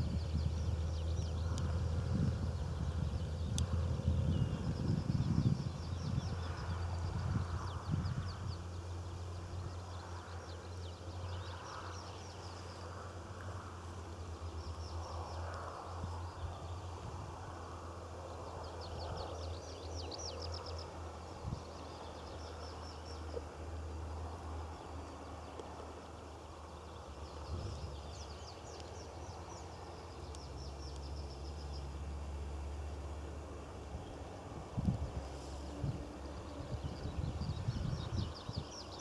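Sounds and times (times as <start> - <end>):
low outdoor rumble: 0.0 - 38.9.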